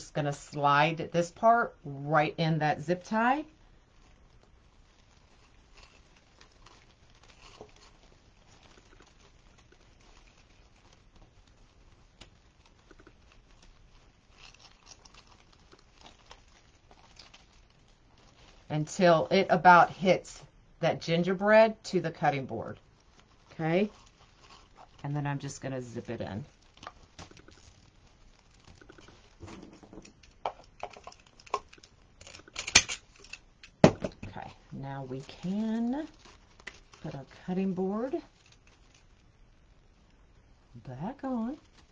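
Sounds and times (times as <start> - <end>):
mesh and ribbon rustling: 0.0 - 40.0, 41.0 - 41.9.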